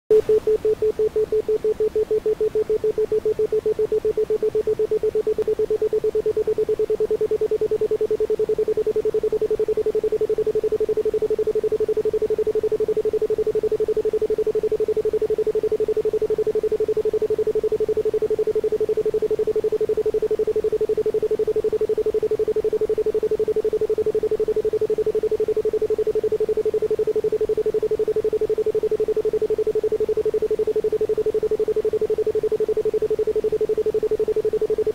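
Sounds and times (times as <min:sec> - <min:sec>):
pulsing pure tone: 0:00.1 - 0:34.9.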